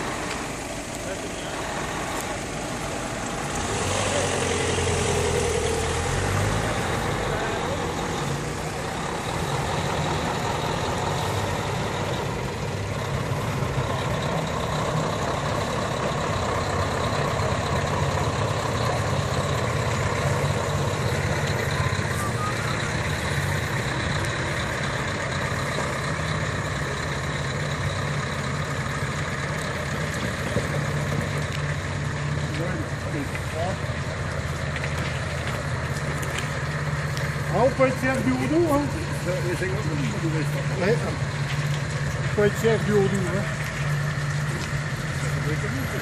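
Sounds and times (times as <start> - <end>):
diesel truck engine drone: 0.0 - 46.0.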